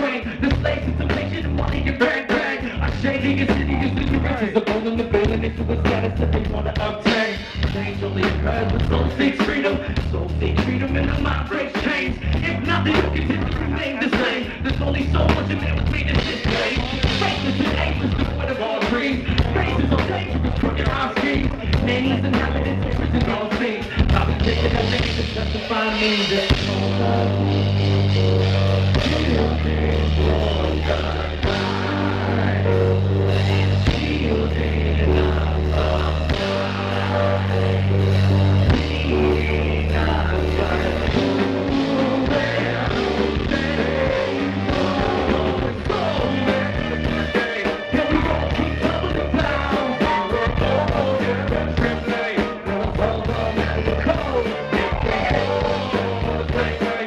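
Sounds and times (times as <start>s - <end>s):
held bass notes: 0.0s - 57.0s
live rock band: 0.0s - 57.0s.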